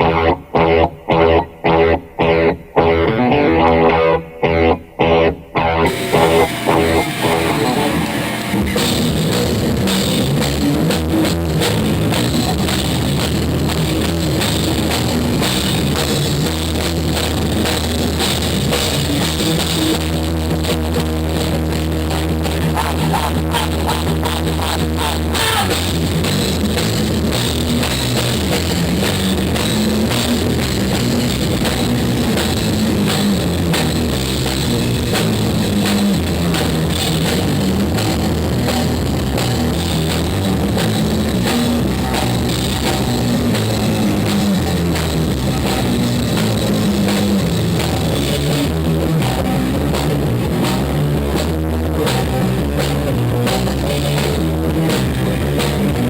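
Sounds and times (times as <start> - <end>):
guitar: 0.0 - 56.0
bass line: 5.8 - 56.0
drum kit beat: 5.9 - 21.0, 25.2 - 56.0.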